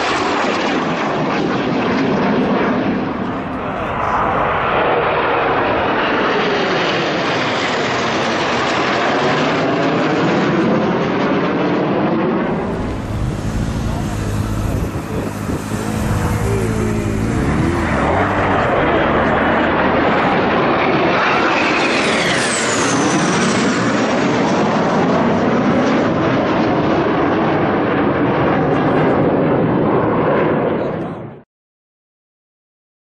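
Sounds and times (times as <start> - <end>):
jets passing low: 0.0 - 10.0, 11.0 - 30.7.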